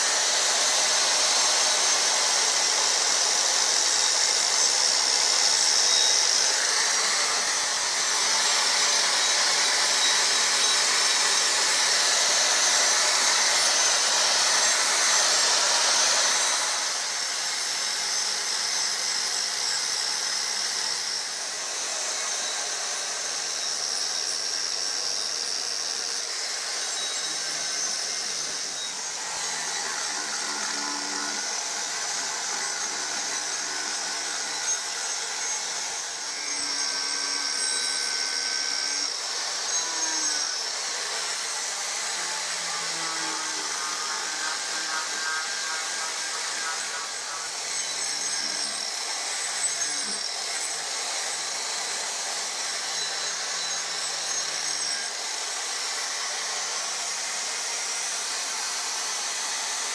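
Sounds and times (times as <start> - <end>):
angle grinder grinding wood: 0.0 - 59.9.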